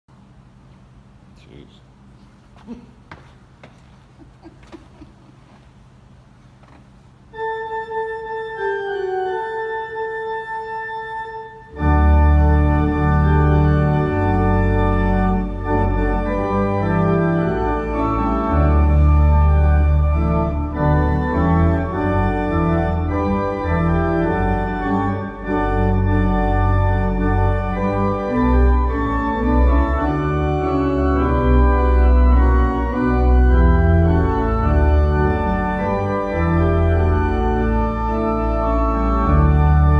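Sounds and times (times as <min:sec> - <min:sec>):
church organ playing: 0:07.2 - 0:39.9.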